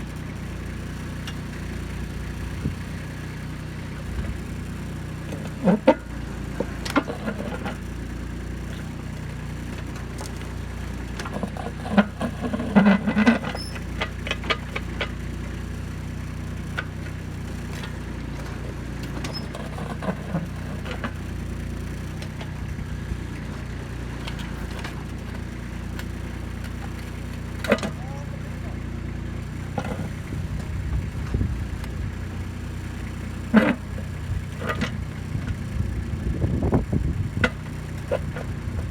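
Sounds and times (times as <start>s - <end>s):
backhoe clanking and scraping rock: 0.0s - 38.9s
tractor diesel engine running: 0.0s - 38.9s.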